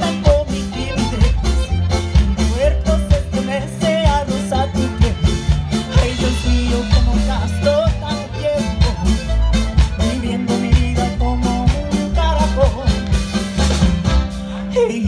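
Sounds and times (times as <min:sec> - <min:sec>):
mandolin and guitar strumming: 0:00.0 - 0:15.0
upright bass notes: 0:00.0 - 0:15.0.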